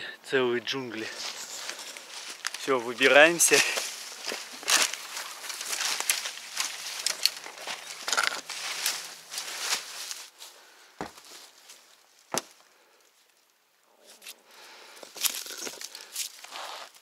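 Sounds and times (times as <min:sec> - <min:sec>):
leaves rustling: 0:00.7 - 0:13.4, 0:14.0 - 0:17.0
twigs crackling underfoot: 0:00.7 - 0:17.0.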